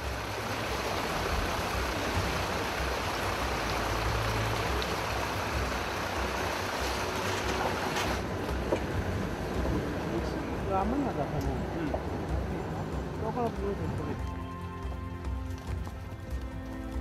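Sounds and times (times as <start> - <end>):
low engine rumble: 0.0 - 17.0
water rushing and splashing: 0.0 - 17.0.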